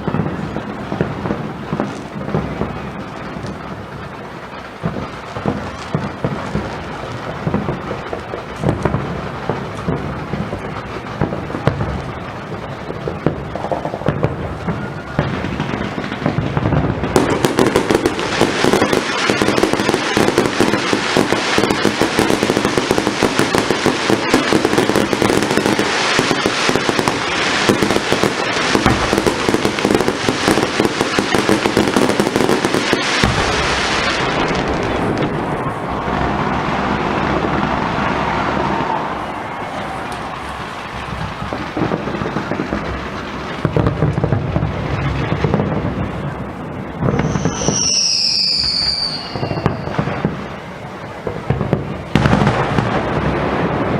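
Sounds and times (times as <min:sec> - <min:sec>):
deep firework booms: 0:00.0 - 0:53.9
firework crackling barrage: 0:00.0 - 0:53.9.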